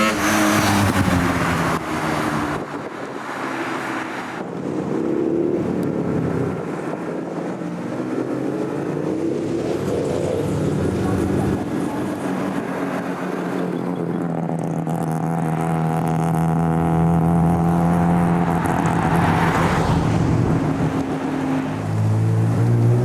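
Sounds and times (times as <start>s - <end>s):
rotary car engine cruising: 0.0s - 23.0s.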